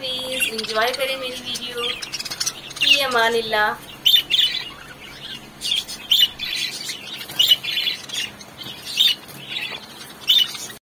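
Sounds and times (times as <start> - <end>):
chicks chirping: 0.0 - 10.8.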